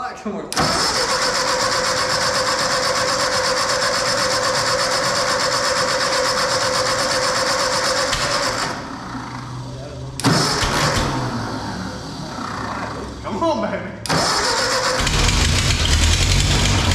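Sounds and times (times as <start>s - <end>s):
starter cranking engine: 0.5s - 9.3s, 10.2s - 13.2s, 14.1s - 16.9s.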